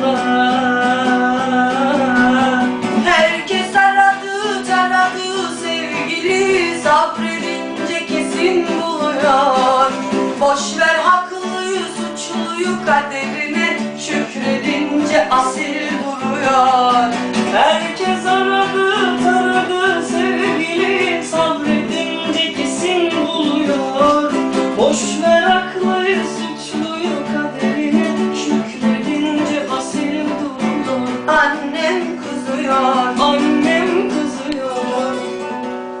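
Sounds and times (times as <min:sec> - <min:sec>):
acoustic guitar: 0:00.0 - 0:36.0.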